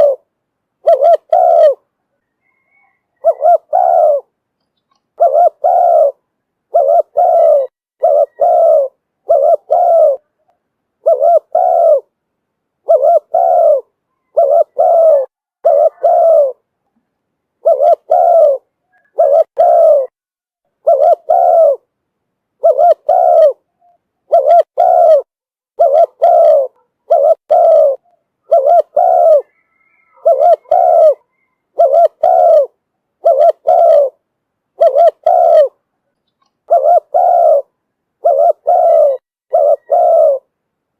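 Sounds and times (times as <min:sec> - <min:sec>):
dove cooing: 0:00.0 - 0:04.4, 0:05.1 - 0:12.1, 0:12.8 - 0:16.6, 0:17.6 - 0:20.2, 0:20.8 - 0:21.9, 0:22.6 - 0:34.2, 0:34.8 - 0:35.8, 0:36.4 - 0:40.5.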